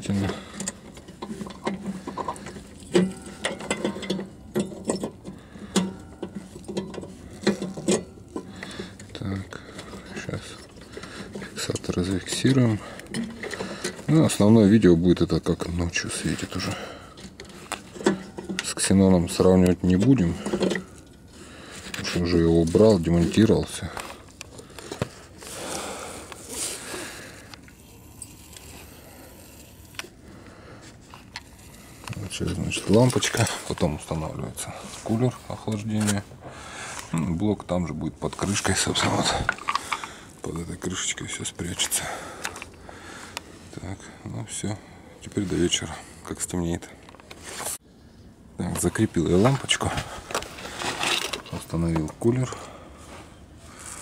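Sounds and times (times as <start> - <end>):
handling rustling: 0.0 - 43.8.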